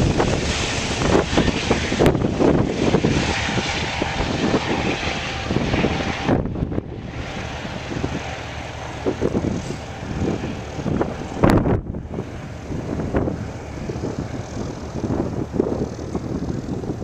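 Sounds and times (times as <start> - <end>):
helicopter rotor and engine: 0.0 - 17.0
wind buffeting microphone: 0.0 - 17.0.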